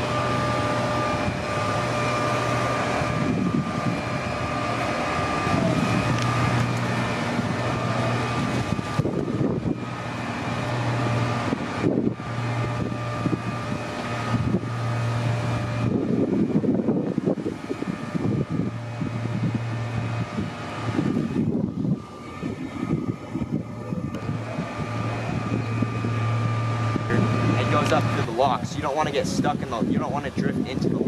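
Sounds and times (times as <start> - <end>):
steady engine drone: 0.0 - 31.0
wind buffeting microphone: 0.0 - 31.0.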